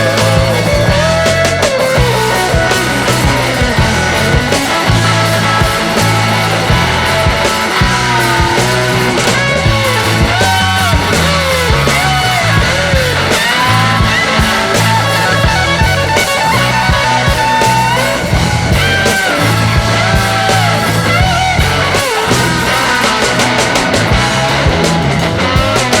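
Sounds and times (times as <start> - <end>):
rock music with guitar: 0.0 - 26.0.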